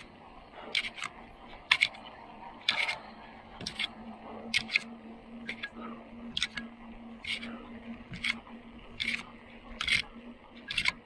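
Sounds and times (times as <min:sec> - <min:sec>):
faint steady hum: 0:00.0 - 0:11.0
sharp irregular clicks: 0:00.0 - 0:11.0.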